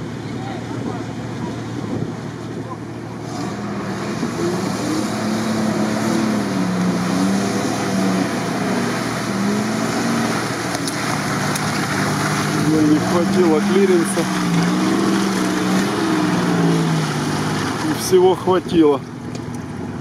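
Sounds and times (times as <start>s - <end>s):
truck engine revving: 0.0s - 18.8s
tyres churning in mud: 0.0s - 20.0s.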